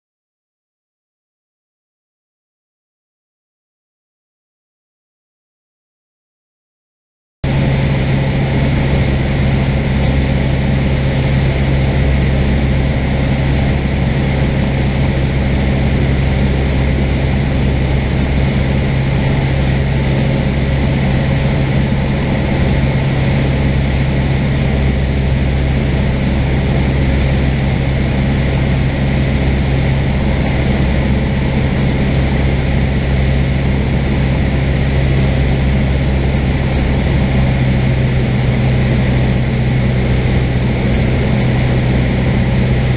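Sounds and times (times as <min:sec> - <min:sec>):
propeller plane engine droning: 0:07.4 - 0:42.9.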